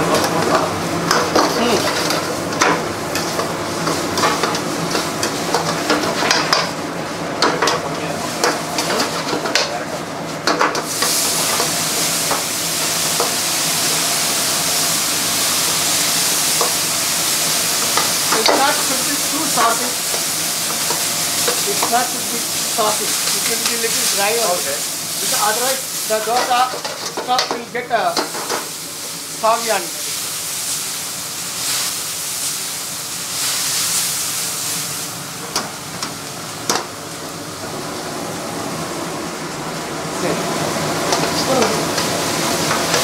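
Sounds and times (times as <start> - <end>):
food sizzling: 0.0 - 43.0.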